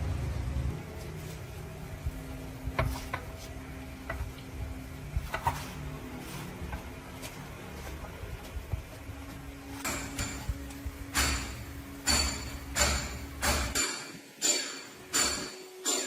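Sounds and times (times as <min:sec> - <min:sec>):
low engine rumble: 0:00.0 - 0:13.4
faint steady hum: 0:00.0 - 0:15.9.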